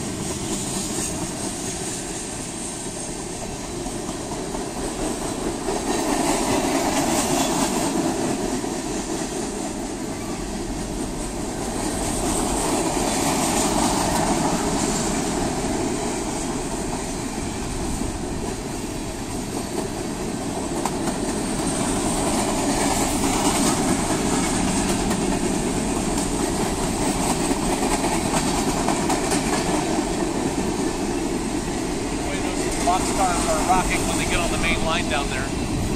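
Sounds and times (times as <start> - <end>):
wheels clicking over rails: 0.0 - 35.3
freight train rolling past: 0.0 - 35.9.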